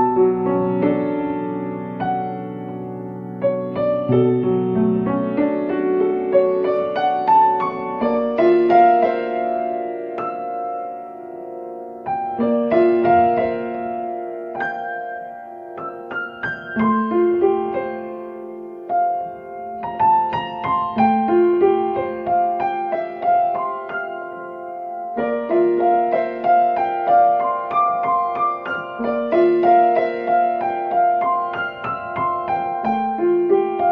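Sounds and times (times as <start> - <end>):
solo grand piano: 0.0 - 33.9.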